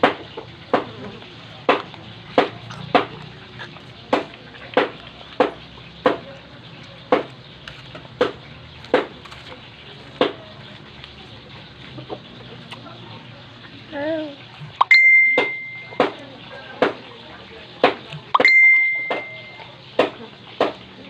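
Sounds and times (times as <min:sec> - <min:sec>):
crunchy chewing: 0:00.0 - 0:14.8, 0:15.8 - 0:18.4.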